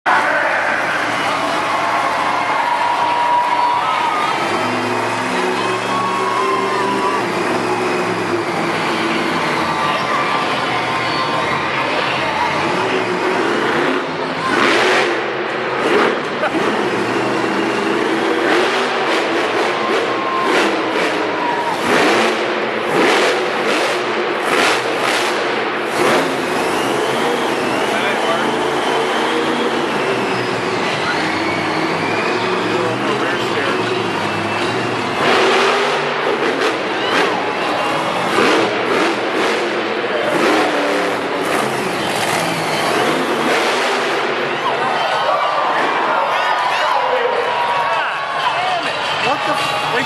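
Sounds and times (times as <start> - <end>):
truck engine revving hard: 0.1 - 50.0.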